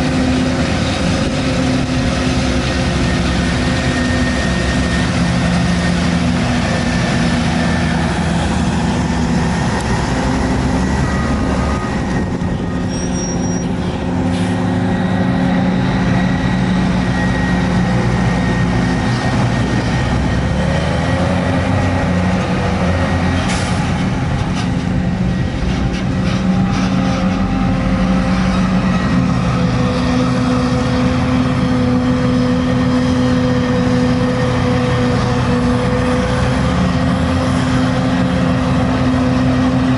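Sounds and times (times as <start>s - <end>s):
tractors working: 0.0s - 39.9s.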